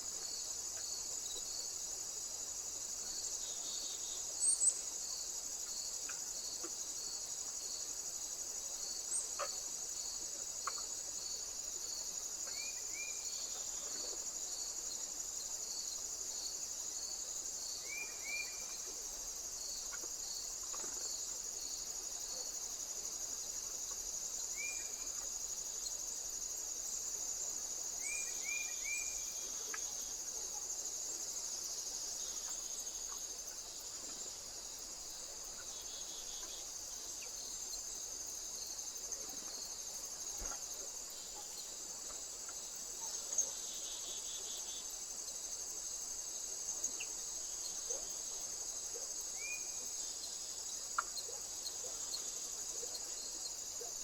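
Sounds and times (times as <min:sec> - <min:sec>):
insect chorus buzzing: 0:00.0 - 0:54.0
pulsing insect chirp: 0:00.0 - 0:54.0.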